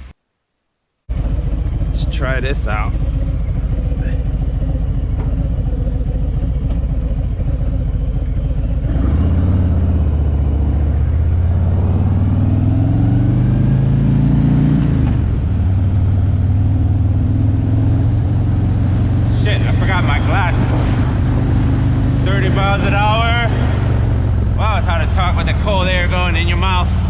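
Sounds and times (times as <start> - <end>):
motorcycle engine running: 1.1 - 27.0.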